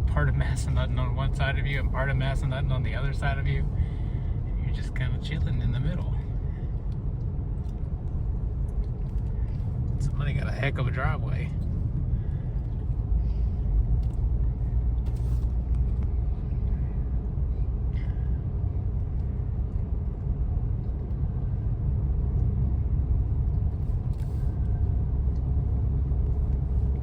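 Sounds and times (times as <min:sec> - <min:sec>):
car driving rumble inside cabin: 0:00.0 - 0:27.0.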